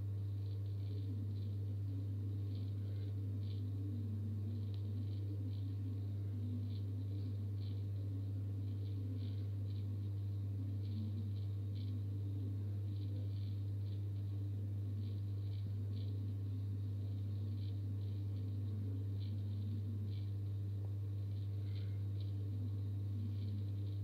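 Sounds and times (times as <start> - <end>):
aquarium pump humming: 0.0 - 24.0
faint ticks: 0.2 - 24.0.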